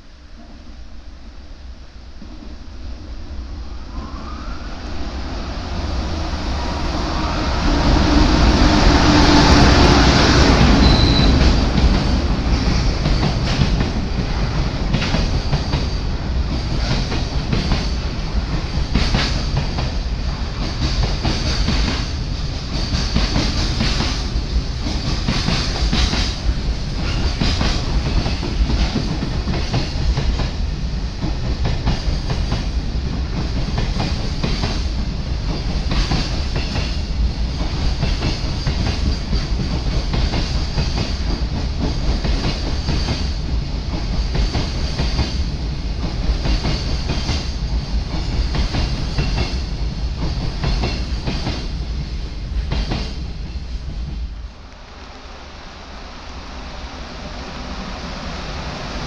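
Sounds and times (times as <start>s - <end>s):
electric locomotive passing: 0.0s - 59.0s.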